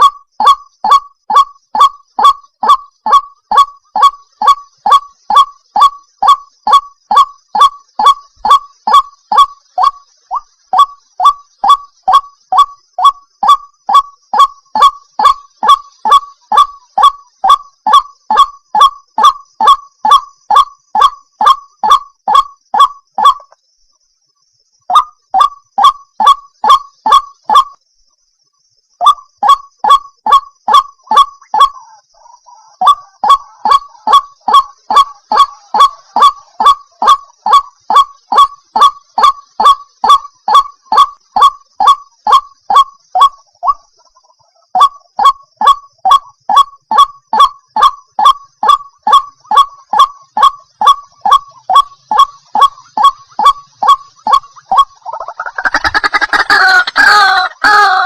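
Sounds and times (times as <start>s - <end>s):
waterhen honking call: 0.0s - 23.5s, 29.0s - 45.4s, 46.1s - 58.0s.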